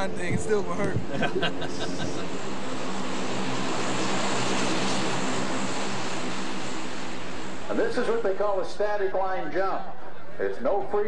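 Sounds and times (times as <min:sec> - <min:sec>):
propeller drone: 0:00.0 - 0:11.0
turboprop engines running: 0:00.0 - 0:11.0.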